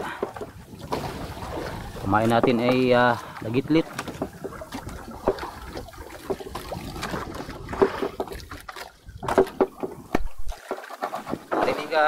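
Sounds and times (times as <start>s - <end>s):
water sloshing against boat: 0.0s - 12.0s.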